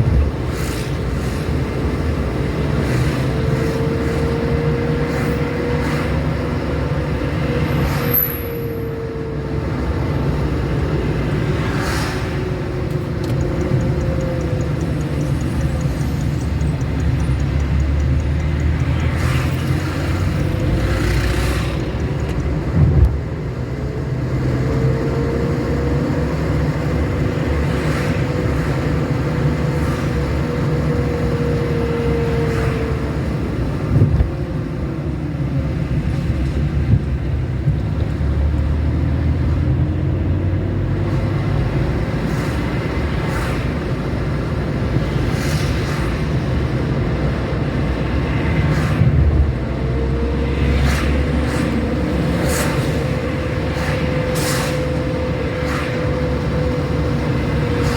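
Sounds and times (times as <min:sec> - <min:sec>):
car engine: 0:00.0 - 0:57.9
tyre noise on road: 0:00.0 - 0:57.9.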